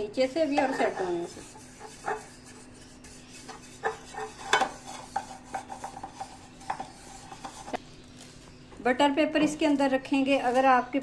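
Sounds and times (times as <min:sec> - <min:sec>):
pastry brush strokes in pan: 0:00.0 - 0:08.6, 0:09.7 - 0:11.0.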